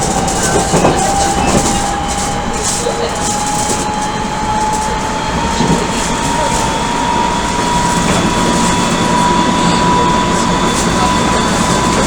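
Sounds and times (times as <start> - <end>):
electric train motor whine: 0.0 - 12.0
train rolling noise: 0.0 - 12.0
train wheel knocks: 0.0 - 12.0.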